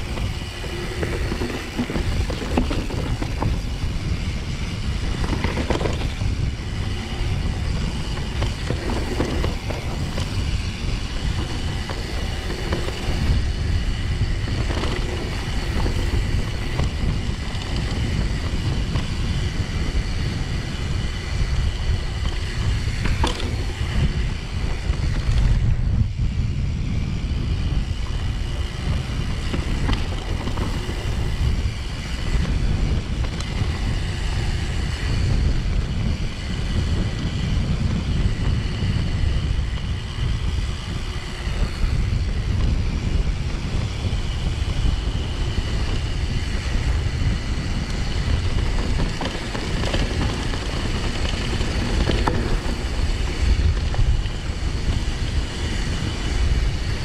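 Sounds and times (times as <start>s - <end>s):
tyres rolling on dirt: 0.0s - 25.7s, 27.6s - 57.0s
bike rattling: 0.0s - 57.0s
wind rumble on microphone: 0.0s - 57.0s.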